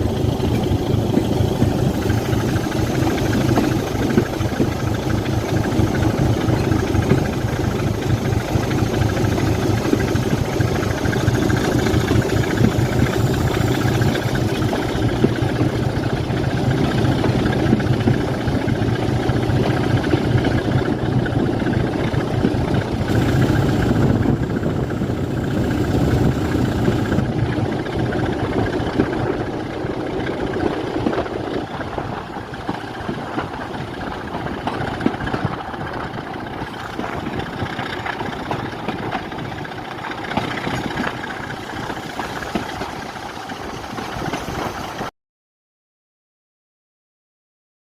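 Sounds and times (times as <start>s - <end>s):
diesel locomotive engine idling: 0.0s - 45.1s.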